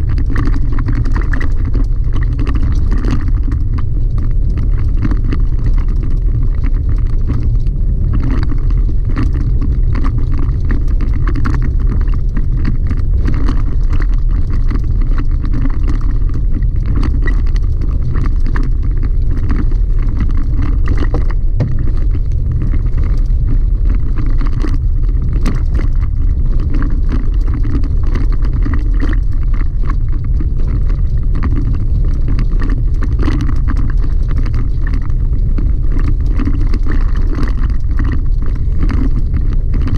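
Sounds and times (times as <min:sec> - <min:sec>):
small clicks and rattles: 0:00.0 - 0:39.9
tyres rumbling on gravel: 0:00.0 - 0:39.9.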